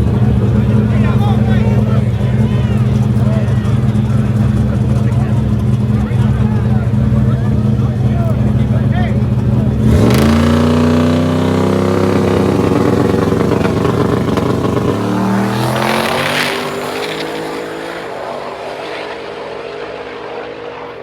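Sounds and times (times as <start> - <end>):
car accelerating at full throttle: 0.0 - 21.0.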